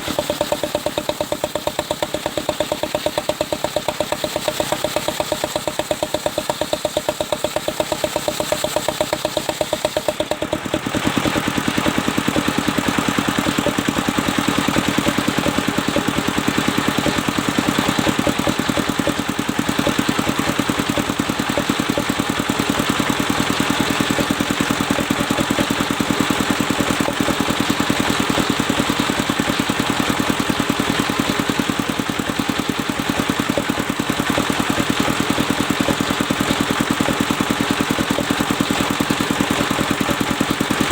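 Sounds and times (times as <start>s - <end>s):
circular saw cutting log: 0.0s - 40.9s
engine beating rapidly: 0.0s - 40.9s.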